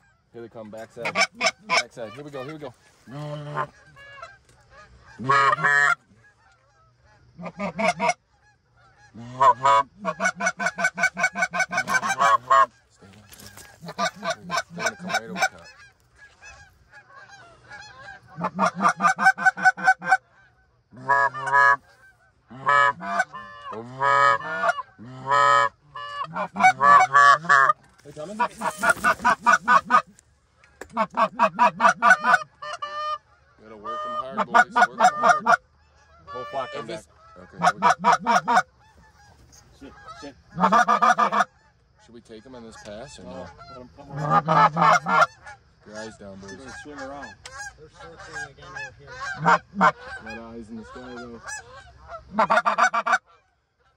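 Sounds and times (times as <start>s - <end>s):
goose call honks and clucks: 0.0s - 53.9s.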